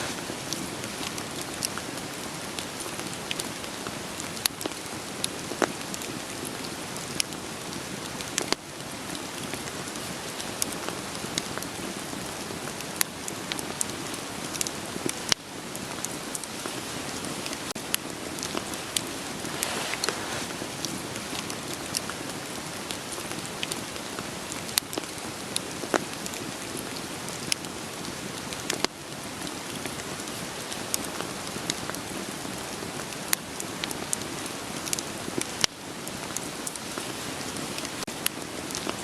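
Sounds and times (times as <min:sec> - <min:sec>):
rain hiss: 0:00.0 - 0:39.0
wood fire crackling: 0:00.0 - 0:39.0.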